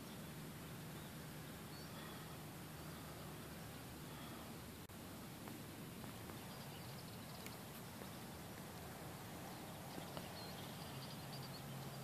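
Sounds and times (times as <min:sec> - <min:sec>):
distant bird chirps: 0:00.0 - 0:04.8, 0:05.8 - 0:12.0
faint low hum: 0:00.0 - 0:12.0
steady hiss: 0:00.0 - 0:12.0.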